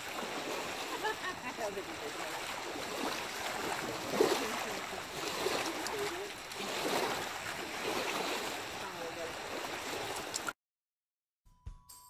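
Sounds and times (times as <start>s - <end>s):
dogs wading through water: 0.0s - 10.6s
water lapping on pebble shore: 0.0s - 10.6s.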